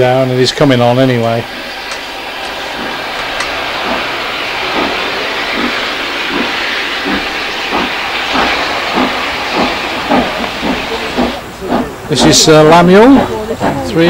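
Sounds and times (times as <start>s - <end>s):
steam hiss: 0.0s - 14.0s
steam locomotive exhaust chuffs: 0.0s - 14.0s.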